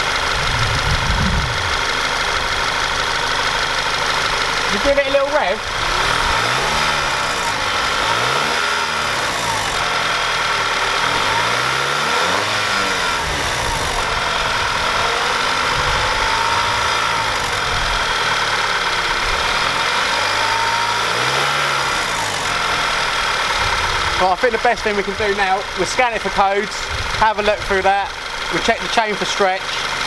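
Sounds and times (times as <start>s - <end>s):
car engine idling and revving: 0.0s - 30.0s
engine rattle: 0.0s - 30.0s.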